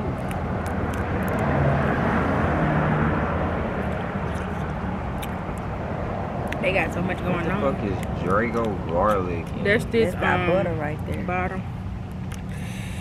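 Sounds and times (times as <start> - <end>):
motor vehicle passing: 0.0 - 13.0.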